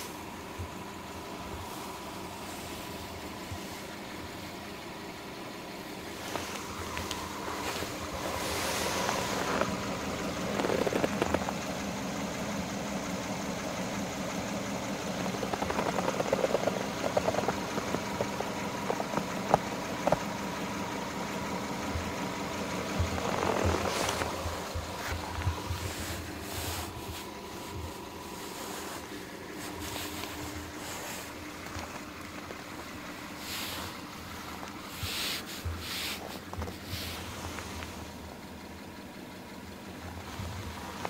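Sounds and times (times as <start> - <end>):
rustling: 0.0 - 12.0, 14.9 - 20.8, 21.9 - 38.9, 39.8 - 41.0
car engine idling: 0.0 - 41.0.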